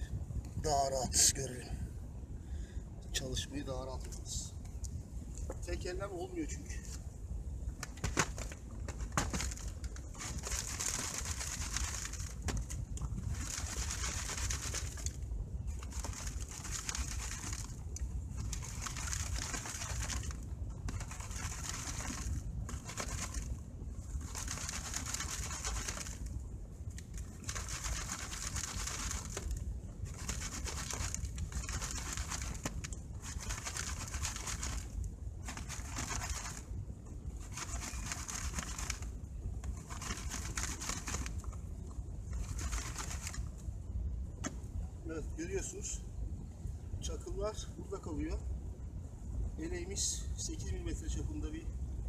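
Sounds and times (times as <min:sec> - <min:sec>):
steady low rumble: 0:00.0 - 0:52.0.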